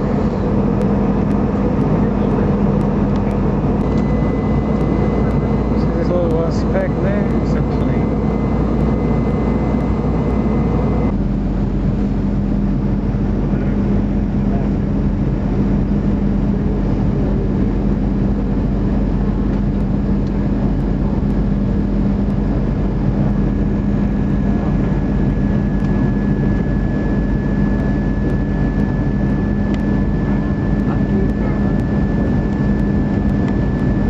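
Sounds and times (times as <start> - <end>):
airplane cabin engine roar: 0.0 - 34.0
constant low hum: 0.0 - 34.0.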